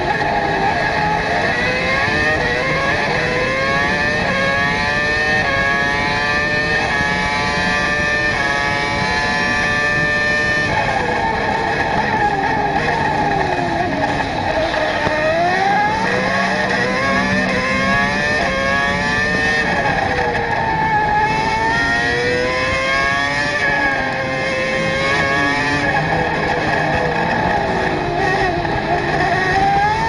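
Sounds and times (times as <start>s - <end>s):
high-revving racing engine: 0.0s - 30.0s.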